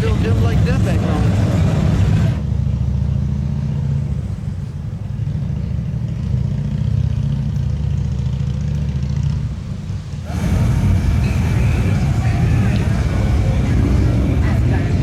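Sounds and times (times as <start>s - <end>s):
motor vehicle low rumble: 0.0s - 15.0s.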